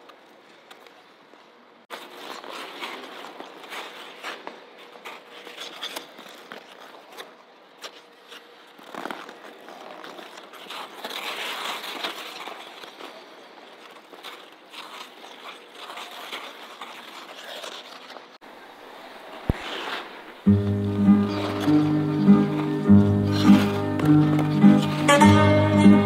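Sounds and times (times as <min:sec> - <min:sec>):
sharp clicks of skate edges: 0:00.0 - 0:25.2
skate blades scraping ice: 0:00.0 - 0:26.0.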